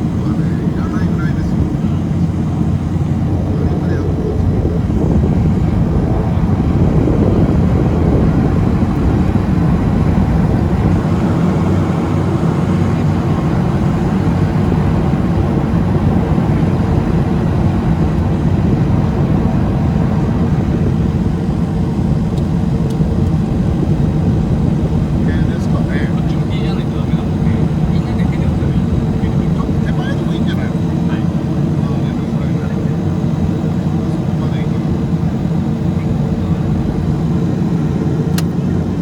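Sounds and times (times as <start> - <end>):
turboprop engines droning: 0.0 - 39.0.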